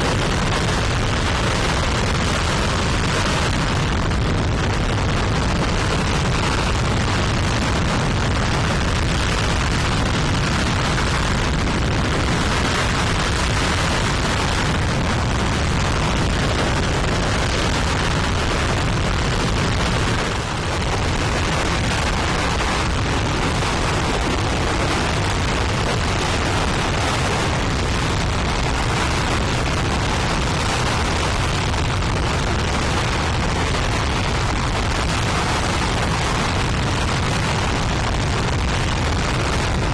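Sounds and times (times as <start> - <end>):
rocket engine roaring: 0.0 - 39.9.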